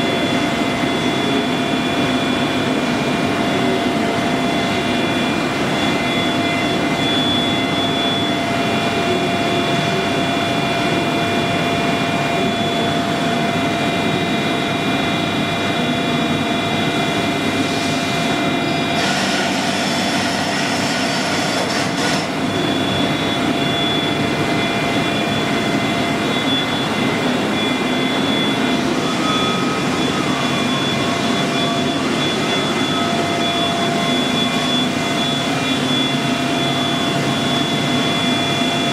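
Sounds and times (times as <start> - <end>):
boring mill humming and whining: 0.0 - 38.9.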